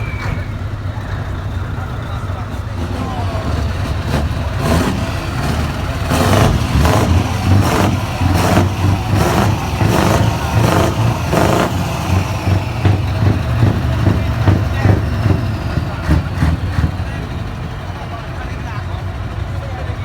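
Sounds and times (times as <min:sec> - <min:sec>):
loud engine surges: 0:00.0 - 0:20.0
truck diesel engine running: 0:00.0 - 0:20.0.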